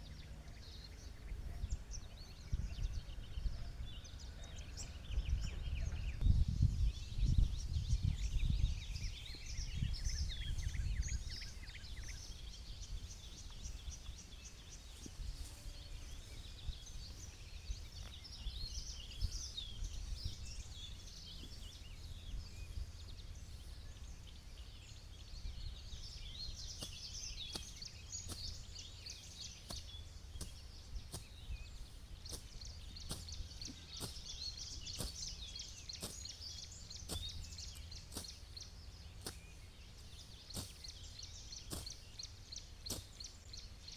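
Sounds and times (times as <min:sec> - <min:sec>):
small birds chirping: 0:00.0 - 0:43.9
wind rumble on microphone: 0:00.0 - 0:43.9.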